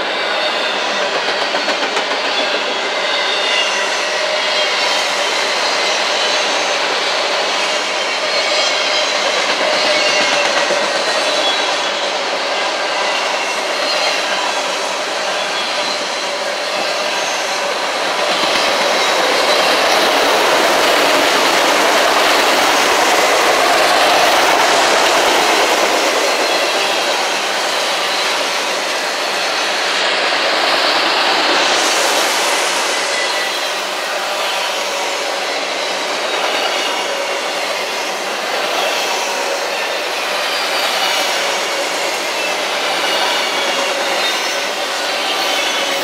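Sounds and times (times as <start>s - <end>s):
steel wheels on rail: 0.0s - 46.0s.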